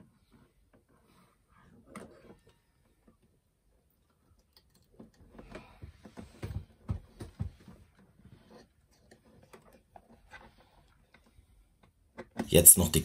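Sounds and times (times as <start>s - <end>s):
small clicks and rustling: 0.1s - 12.4s.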